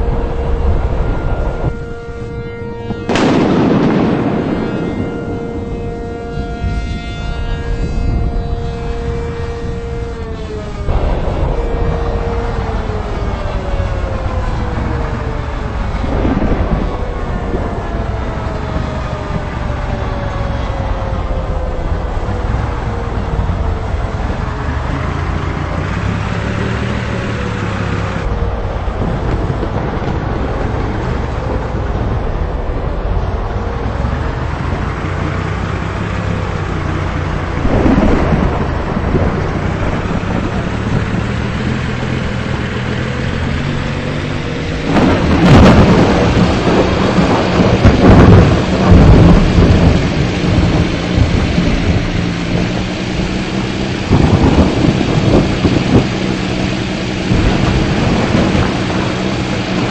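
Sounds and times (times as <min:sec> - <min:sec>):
steady low rumble: 0:00.0 - 0:59.9
thunder rolling: 0:00.0 - 0:59.9.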